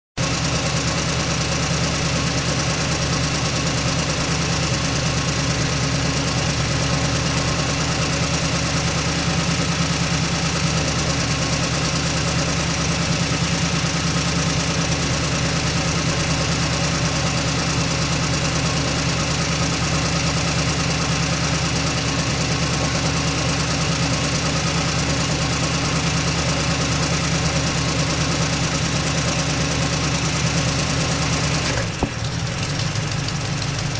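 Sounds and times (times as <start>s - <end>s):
truck engine running steadily: 0.2s - 33.9s.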